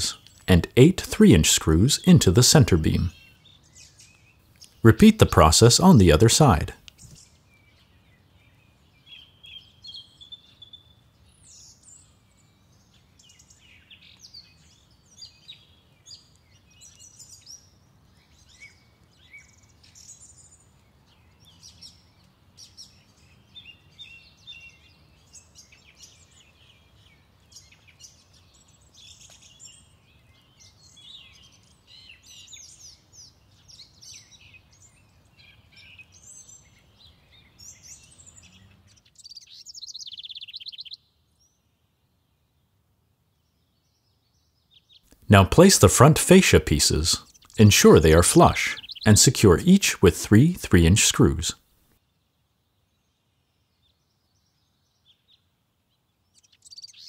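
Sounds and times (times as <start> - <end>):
birds chirping and singing: 0.0 - 41.6, 47.1 - 51.4, 56.3 - 57.0.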